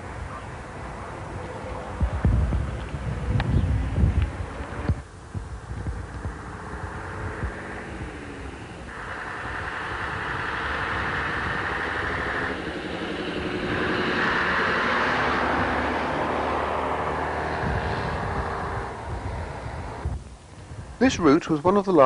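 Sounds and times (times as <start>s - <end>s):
diesel bus driving past: 0.0s - 20.2s.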